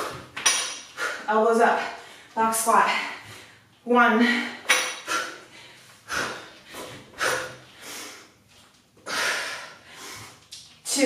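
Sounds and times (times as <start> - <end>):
woman breathing hard: 0.9 - 8.4, 9.0 - 10.5.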